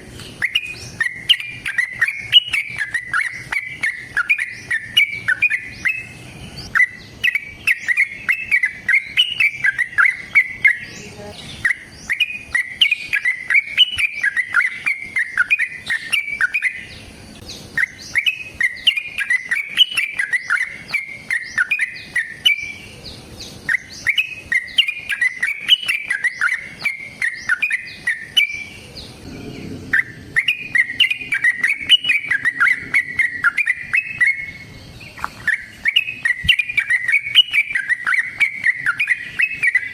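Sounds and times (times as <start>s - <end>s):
bird singing chirping runs: 0.0s - 39.9s.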